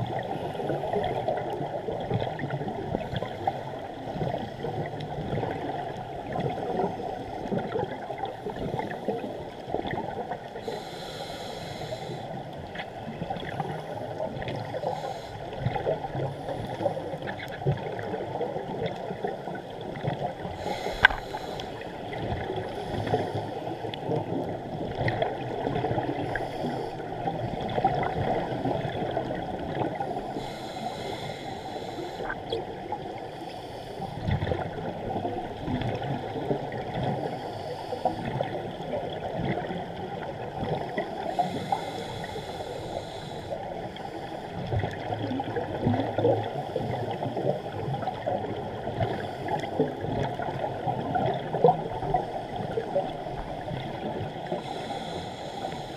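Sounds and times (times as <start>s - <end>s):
muffled underwater crackling: 0.0s - 55.9s.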